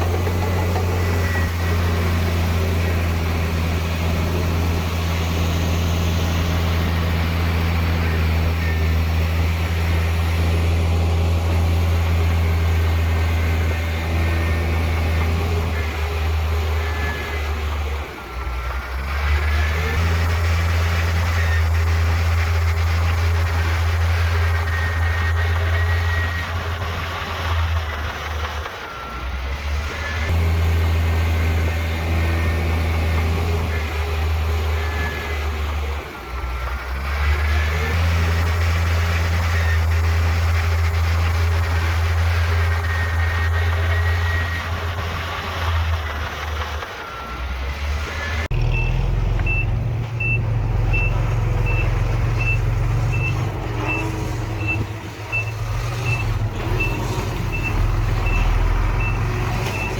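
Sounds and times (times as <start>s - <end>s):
diesel machinery running: 0.0s - 59.9s
reversing alarm beeping: 0.0s - 59.9s.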